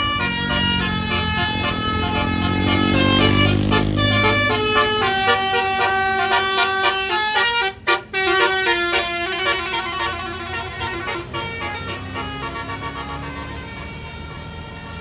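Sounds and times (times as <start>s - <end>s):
bus engine rumble: 0.0s - 15.0s
multi-note air horn tune: 0.0s - 15.0s.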